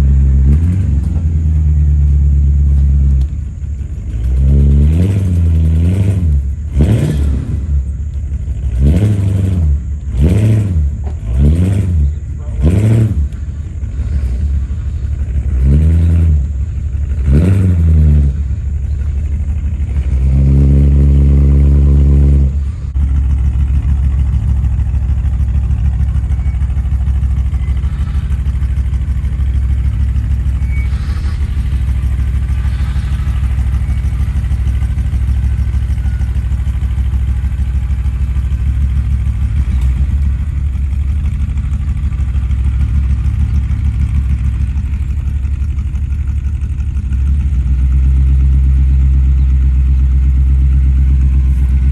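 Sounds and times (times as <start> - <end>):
engine revving and idling: 0.0 - 51.9.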